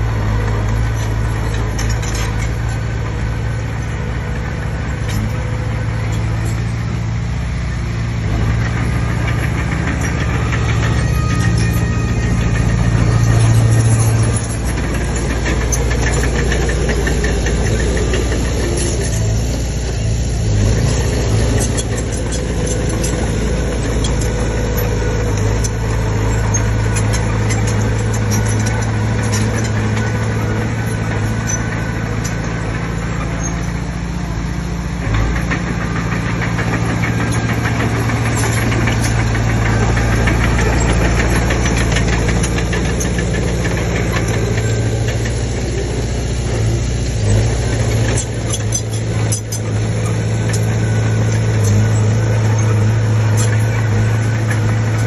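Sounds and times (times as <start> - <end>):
bulldozer diesel engine running: 0.0 - 55.0
clanks and rattles: 0.1 - 55.0.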